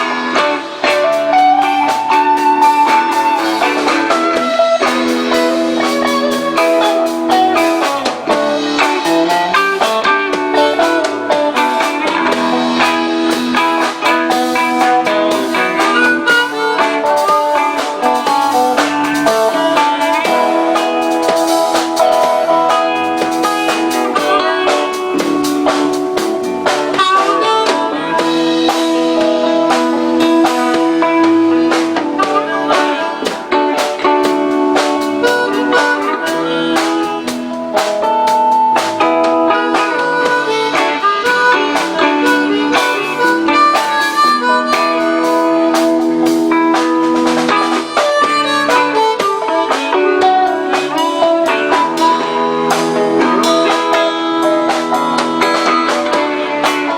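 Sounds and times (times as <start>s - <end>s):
live band playing: 0.0s - 56.9s.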